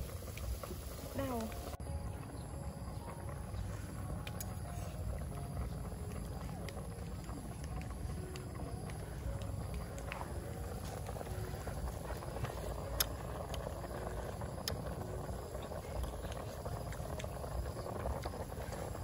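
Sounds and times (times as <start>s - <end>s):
soup boiling in a pot: 0.0s - 19.0s.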